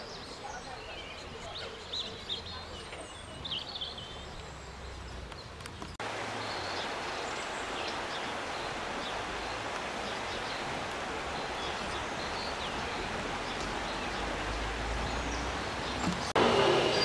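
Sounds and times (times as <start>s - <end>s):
birds chirping: 0.0s - 17.0s
river running over stones: 1.1s - 17.0s.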